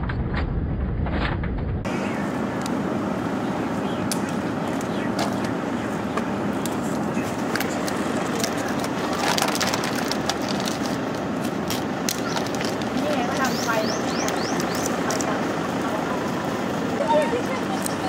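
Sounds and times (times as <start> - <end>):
car engine humming: 1.8 - 18.0.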